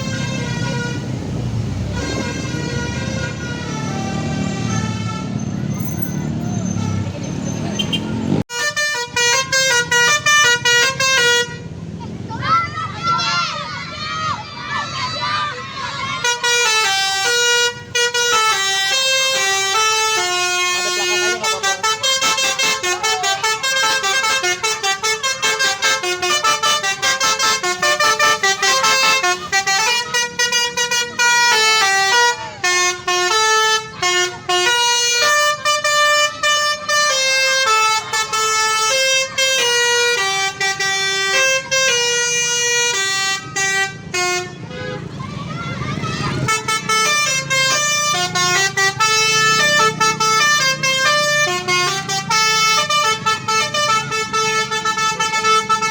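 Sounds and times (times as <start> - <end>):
bus horn playing a melody: 0.0 - 5.8, 6.6 - 11.8, 16.0 - 45.2, 46.3 - 55.9.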